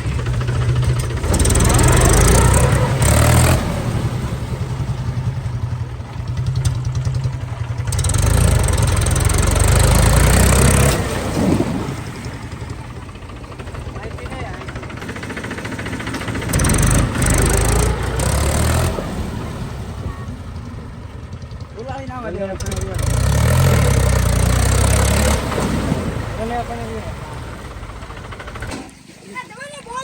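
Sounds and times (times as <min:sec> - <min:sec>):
diesel engine throbbing and revving: 0:00.0 - 0:29.1.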